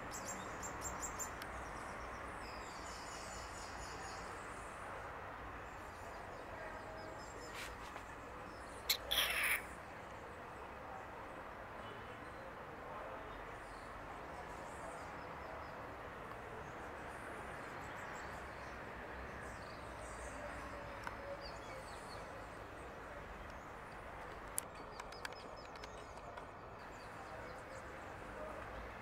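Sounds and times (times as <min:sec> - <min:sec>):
faint birds chirping: 0:00.0 - 0:29.0
outdoor background noise: 0:00.0 - 0:29.0.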